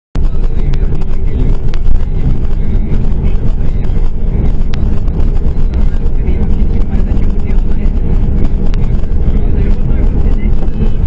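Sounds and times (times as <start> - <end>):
vehicle rumbling: 0.2 - 11.0
wind noise on microphone: 0.2 - 11.0.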